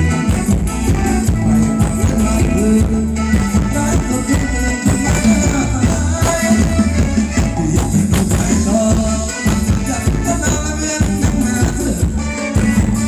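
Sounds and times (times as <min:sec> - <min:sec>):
live band playing dance music: 0:00.0 - 0:13.0.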